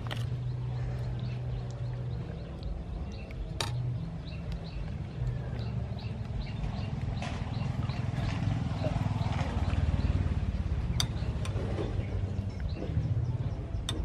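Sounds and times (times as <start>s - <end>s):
high chirping ticks: 0.0s - 14.0s
steady low hum: 0.0s - 14.0s.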